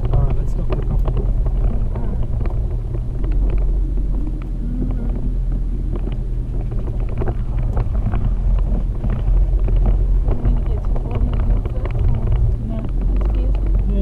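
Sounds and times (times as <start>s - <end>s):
engine drone: 0.0s - 14.0s
knocks and rattles: 0.0s - 14.0s.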